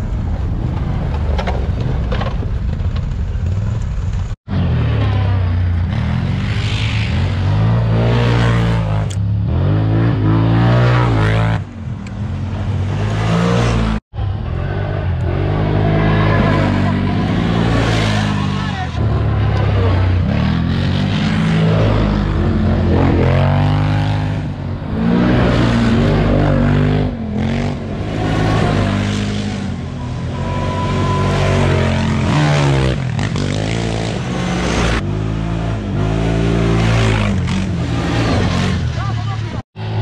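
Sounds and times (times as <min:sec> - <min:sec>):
quad bike engines revving: 0:04.5 - 0:40.0.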